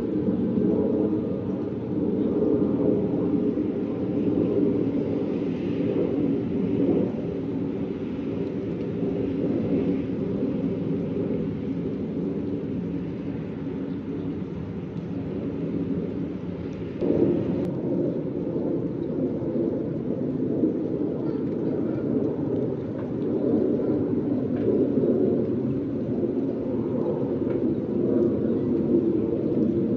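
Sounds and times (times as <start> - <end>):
wind rumbling on microphone: 0.0 - 29.9.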